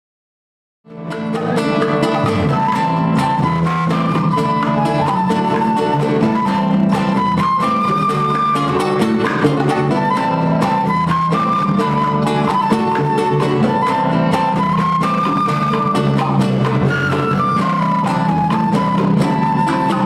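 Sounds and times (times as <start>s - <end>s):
band playing son music: 0.9s - 20.0s.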